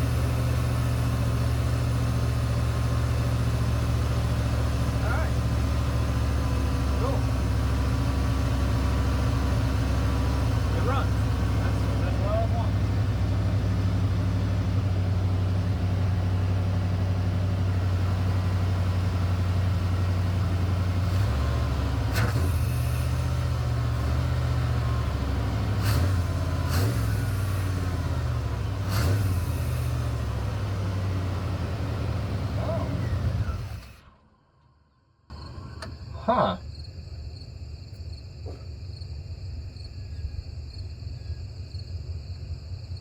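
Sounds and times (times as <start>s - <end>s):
pickup engine idling: 0.0s - 34.4s, 35.3s - 38.8s.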